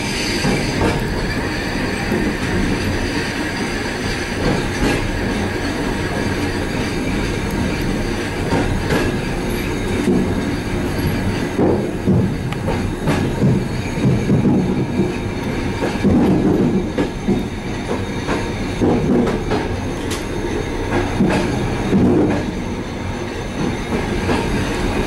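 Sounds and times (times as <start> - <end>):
train low rumble: 0.0 - 25.0
wheels clicking over rail joints: 0.4 - 22.6.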